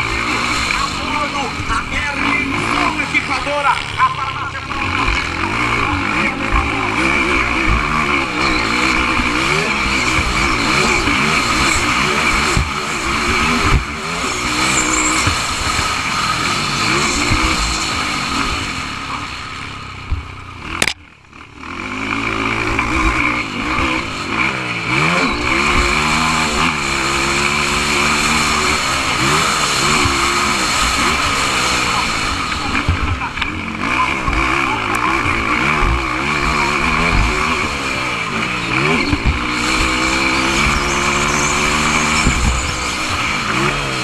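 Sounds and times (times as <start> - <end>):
motocross bike engines revving: 0.0 - 44.0.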